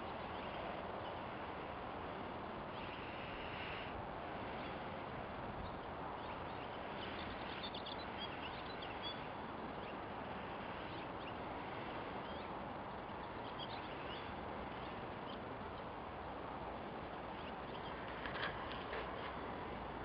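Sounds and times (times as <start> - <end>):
small birds chirping: 0.0 - 16.2, 16.8 - 18.9
outdoor hiss: 0.0 - 18.6.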